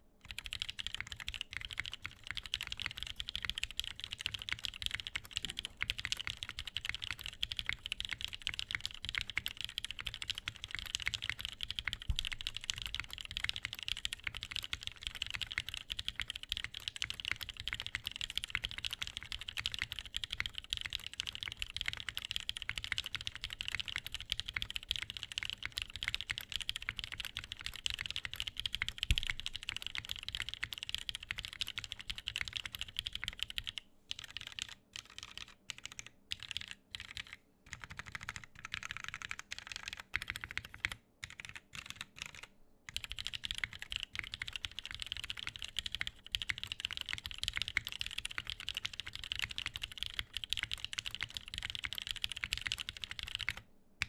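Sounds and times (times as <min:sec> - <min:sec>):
keyboard typing: 0:00.2 - 0:53.6.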